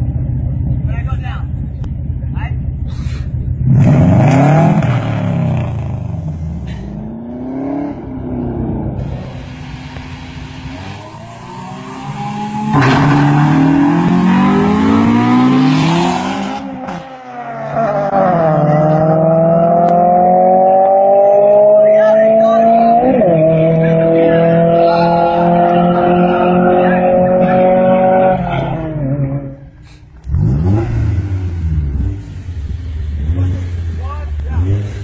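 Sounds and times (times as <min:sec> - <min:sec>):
truck engine revving: 0:02.7 - 0:35.0.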